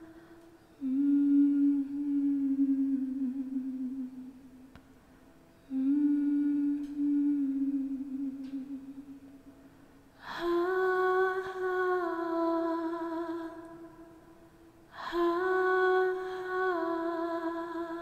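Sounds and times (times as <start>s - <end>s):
woman humming a solemn tune: 0.0s - 4.7s, 5.6s - 9.3s, 10.2s - 14.2s, 14.9s - 18.0s.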